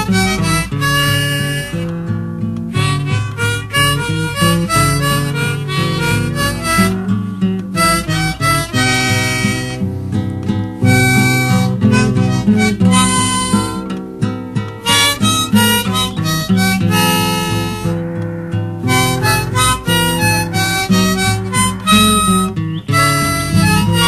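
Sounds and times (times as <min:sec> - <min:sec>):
harmonica playing chords: 0:00.0 - 0:24.0
plucked acoustic guitar: 0:00.0 - 0:24.0.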